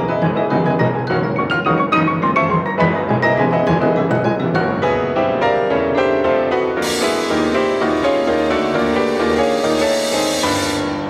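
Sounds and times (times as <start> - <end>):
two pianos playing: 0.0 - 11.0.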